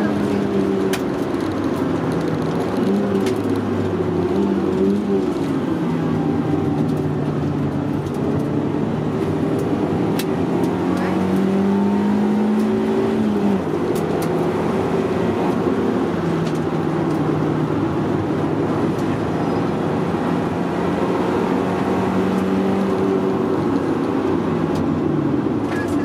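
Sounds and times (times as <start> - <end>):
car engine at speed from inside: 0.0 - 26.0.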